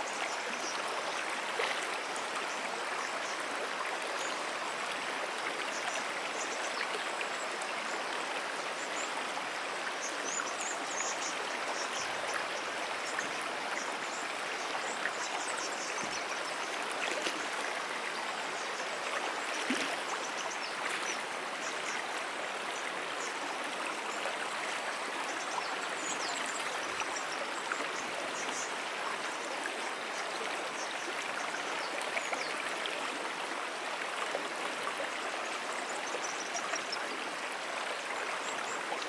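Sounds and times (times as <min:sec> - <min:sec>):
brook flowing: 0:00.0 - 0:39.0.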